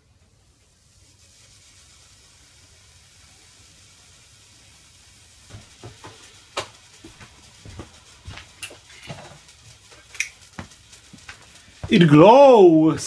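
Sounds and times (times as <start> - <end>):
heater element crackling and ticking: 0.3 - 13.0.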